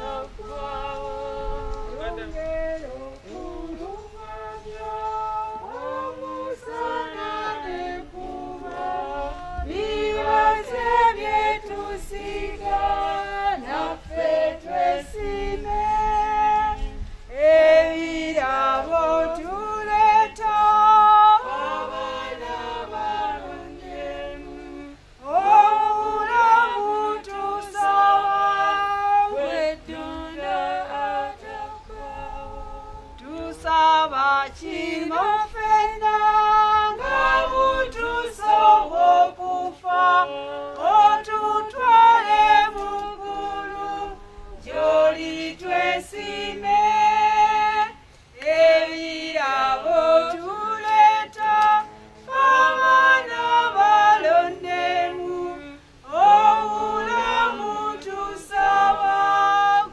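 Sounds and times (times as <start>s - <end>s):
group singing a hymn: 0.0s - 59.9s.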